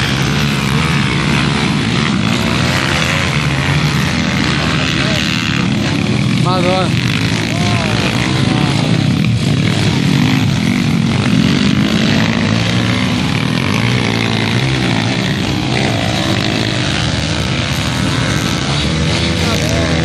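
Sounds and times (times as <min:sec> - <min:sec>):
pit bike engines revving: 0:00.0 - 0:20.0.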